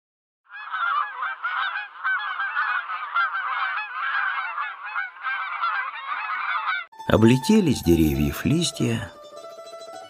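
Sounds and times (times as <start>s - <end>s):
flock of geese honking: 0.5s - 10.0s.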